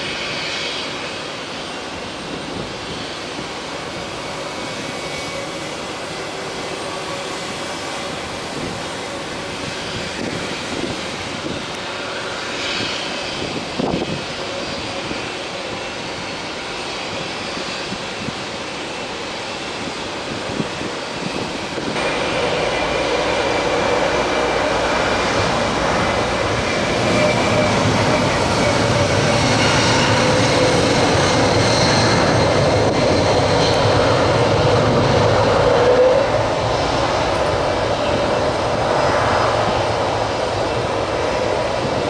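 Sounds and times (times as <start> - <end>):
jet engines running: 0.0 - 42.0.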